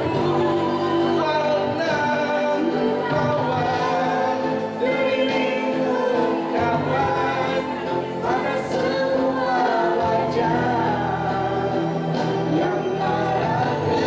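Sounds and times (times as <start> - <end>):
backing music: 0.0 - 14.0
man and woman singing duet: 0.0 - 14.0.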